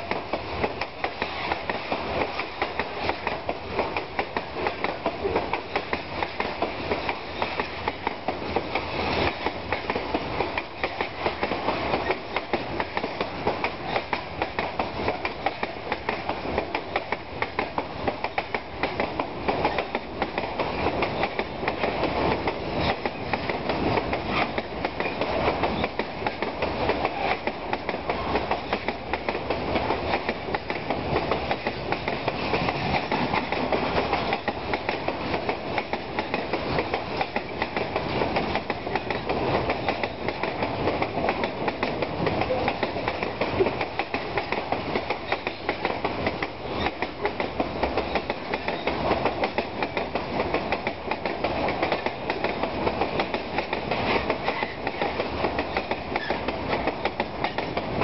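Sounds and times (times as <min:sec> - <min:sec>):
train wheels clattering over rail joints: 0:00.0 - 0:58.0.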